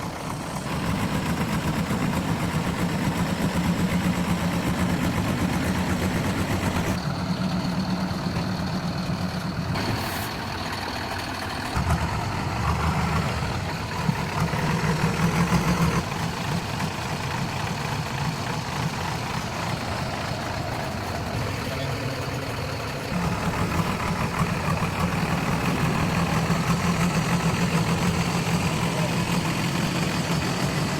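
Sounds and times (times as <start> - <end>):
heavy diesel engine running: 0.0 - 30.9.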